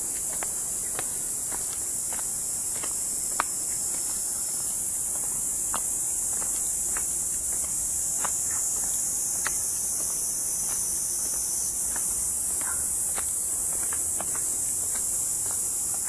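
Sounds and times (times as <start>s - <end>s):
footsteps on stone path: 0.0s - 16.0s
high-pitched insect chorus: 0.0s - 16.0s.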